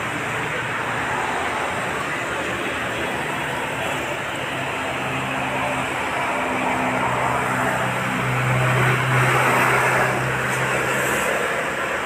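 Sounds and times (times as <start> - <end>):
road traffic hiss and rumble: 0.0 - 12.0.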